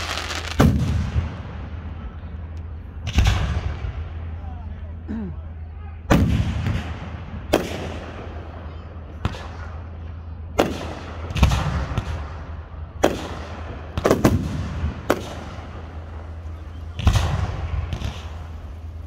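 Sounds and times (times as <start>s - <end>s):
fireworks booming: 0.0s - 2.1s, 3.0s - 4.3s, 6.1s - 9.9s, 10.6s - 19.0s
steady low hum: 0.8s - 19.0s.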